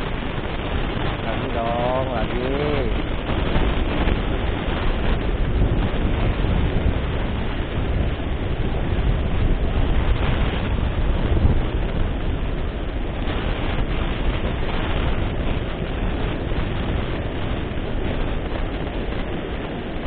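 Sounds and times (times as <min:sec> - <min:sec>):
ocean surf breaking: 0:00.0 - 0:20.0
wind rumbling on microphone: 0:00.0 - 0:20.0.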